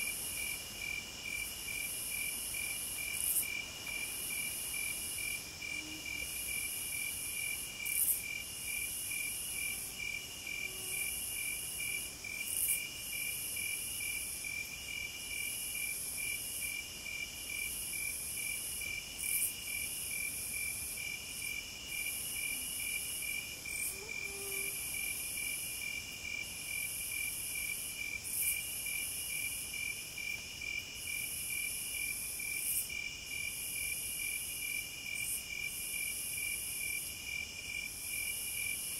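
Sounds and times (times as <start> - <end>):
insect chirps: 0.0 - 38.9
insects trilling: 0.0 - 38.9.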